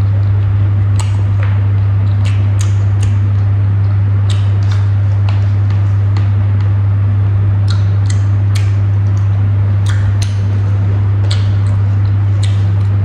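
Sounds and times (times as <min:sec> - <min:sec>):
chewing clicks and smacks: 0:00.0 - 0:06.8, 0:07.6 - 0:13.0
loud steady low hum: 0:00.0 - 0:13.0.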